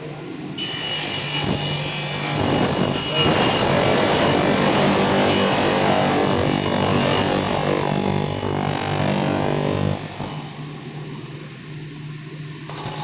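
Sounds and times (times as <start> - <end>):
saw cutting aluminium screech: 0.6 - 11.2.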